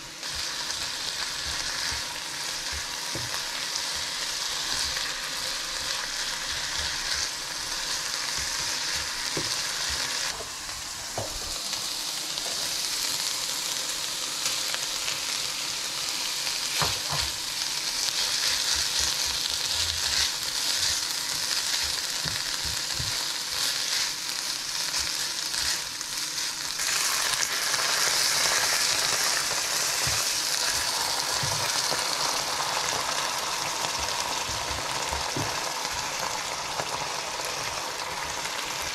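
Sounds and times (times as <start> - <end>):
meat and vegetables sizzling: 0.0 - 38.9.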